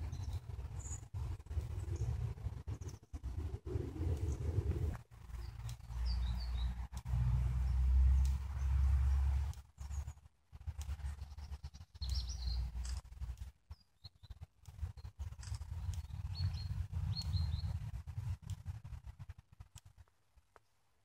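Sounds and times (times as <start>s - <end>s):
low rumble: 0.0s - 13.4s, 14.3s - 19.7s
songbirds chirping: 0.0s - 21.0s.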